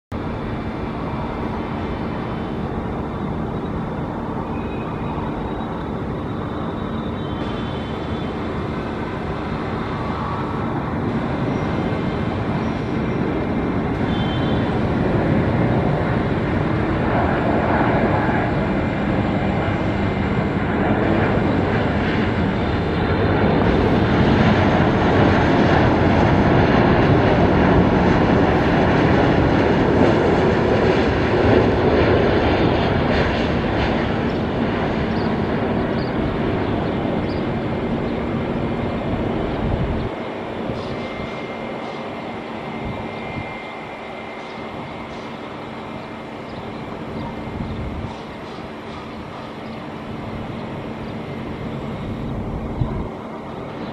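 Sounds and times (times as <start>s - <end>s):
jet engine rushing: 0.2s - 53.9s.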